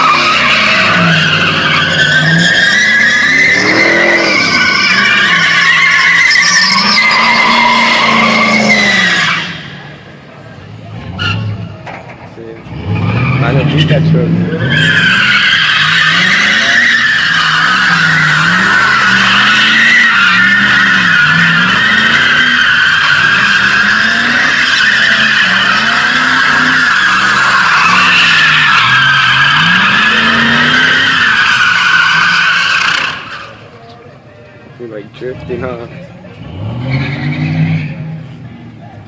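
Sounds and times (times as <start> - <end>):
car engine revving: 0.0 - 33.6, 35.2 - 39.0
tires squealing: 0.0 - 39.0.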